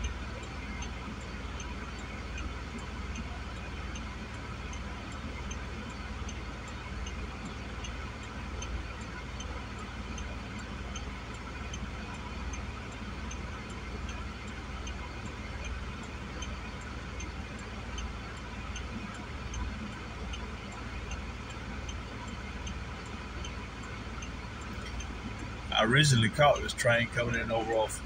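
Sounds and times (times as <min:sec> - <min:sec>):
light even ticking: 0:00.0 - 0:28.0.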